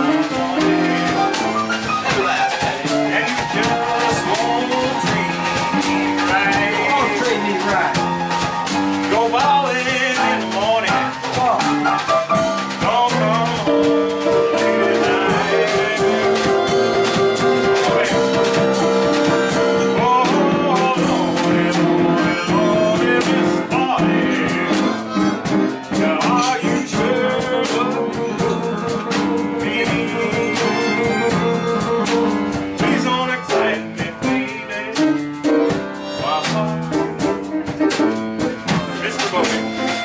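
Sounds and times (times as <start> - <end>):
blues band playing: 0.0 - 40.0
drum kit with cymbals: 0.0 - 40.0.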